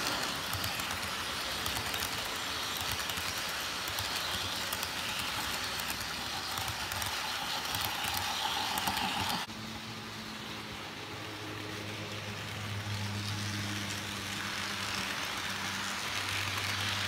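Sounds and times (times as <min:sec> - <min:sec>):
wheels clicking on rail: 0:00.0 - 0:09.5, 0:10.4 - 0:17.0
model train cars rolling on track: 0:00.0 - 0:17.0.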